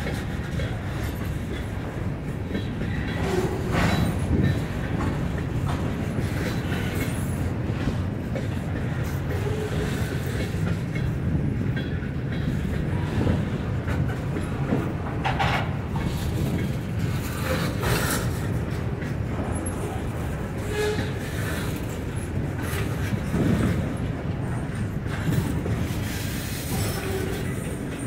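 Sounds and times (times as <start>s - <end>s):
clickety-clack over rail joints: 0.0s - 28.0s
steel wheels rumbling on rail: 0.0s - 28.0s.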